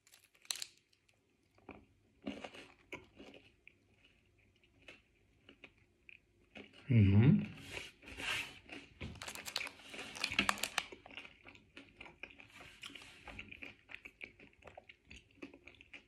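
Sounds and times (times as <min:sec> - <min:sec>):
crunchy chewing: 0:00.0 - 0:06.8, 0:08.6 - 0:16.0.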